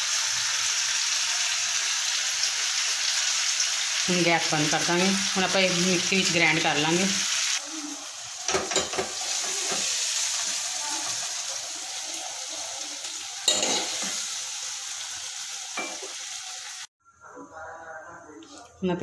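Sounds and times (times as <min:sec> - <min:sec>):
onion and tomato sizzling: 0:00.0 - 0:16.9.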